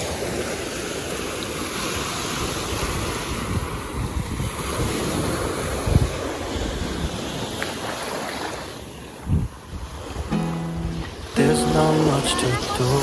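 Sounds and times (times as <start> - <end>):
surf washing on beach: 0.0 - 13.0
wind buffeting microphone: 1.6 - 8.1, 9.1 - 13.0.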